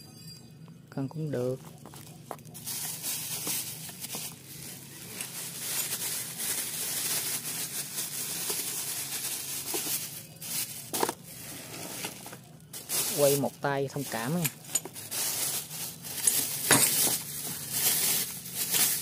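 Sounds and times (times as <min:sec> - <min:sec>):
plastic wrapping crinkling: 0:01.6 - 0:19.0.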